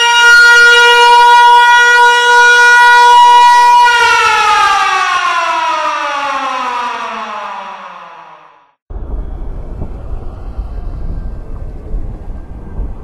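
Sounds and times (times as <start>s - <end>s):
siren winding down: 0.0s - 13.0s.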